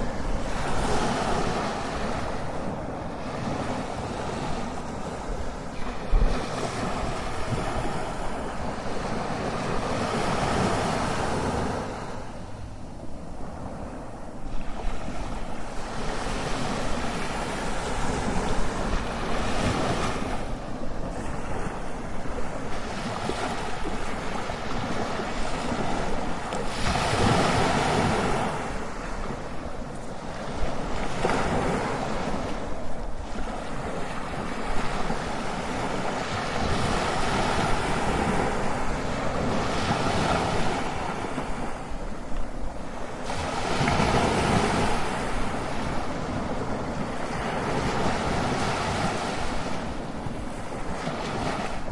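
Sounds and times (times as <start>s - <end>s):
ocean waves crashing: 0.0s - 51.9s.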